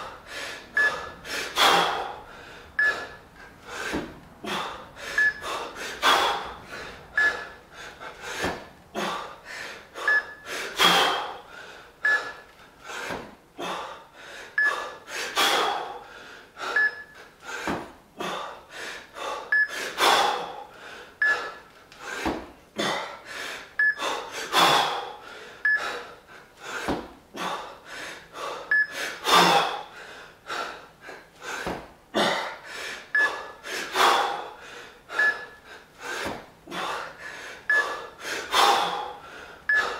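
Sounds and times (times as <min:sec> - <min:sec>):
man breathing hard: 0:00.0 - 0:39.9.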